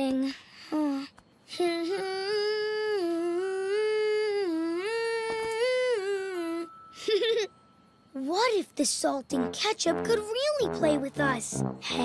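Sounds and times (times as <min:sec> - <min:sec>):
child humming a tune: 0:00.0 - 0:07.5, 0:09.3 - 0:12.0.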